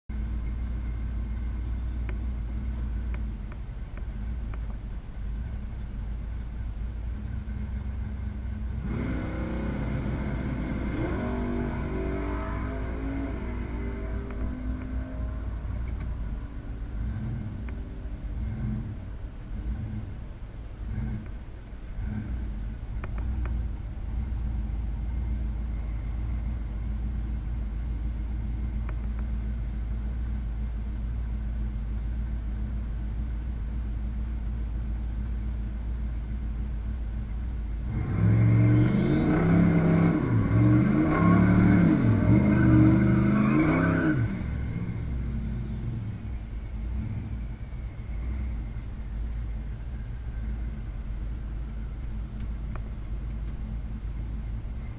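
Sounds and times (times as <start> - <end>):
car engine idling: 0.1 - 54.9
car engine revving: 0.1 - 54.9.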